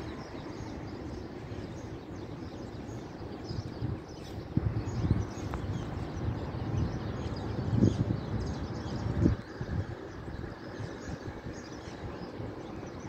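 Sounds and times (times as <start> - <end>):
steady outdoor background noise: 0.0 - 13.0.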